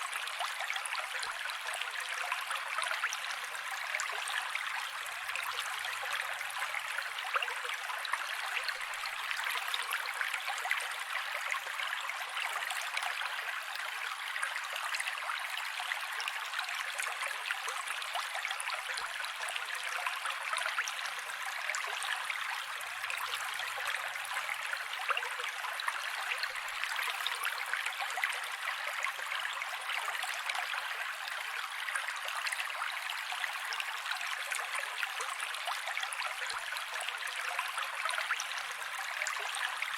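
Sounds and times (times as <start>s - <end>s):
mountain creek flowing: 0.0s - 39.9s.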